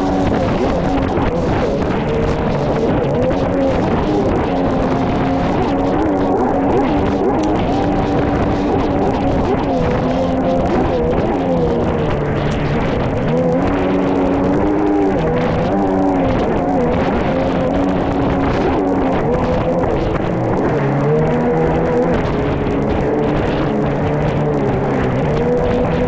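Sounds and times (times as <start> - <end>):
jet ski rushing through water: 0.0 - 26.0.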